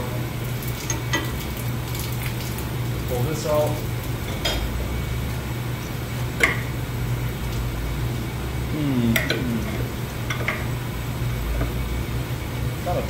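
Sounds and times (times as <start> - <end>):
low hum of boiler equipment: 0.0 - 13.0.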